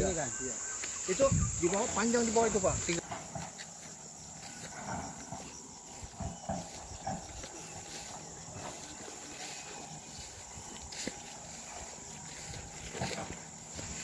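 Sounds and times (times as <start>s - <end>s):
insects chirping: 0.0s - 14.0s
rustling of plants: 0.0s - 14.0s.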